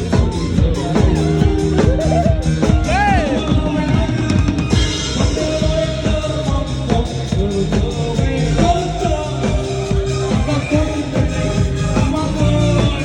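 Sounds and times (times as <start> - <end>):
drum kit played fast: 0.0 - 13.0
pop dance backing track: 0.0 - 13.0.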